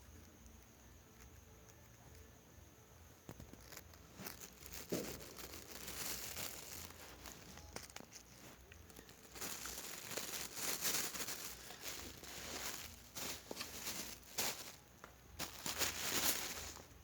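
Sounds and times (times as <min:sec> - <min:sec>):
rustling and crinkling: 0:03.2 - 0:17.0.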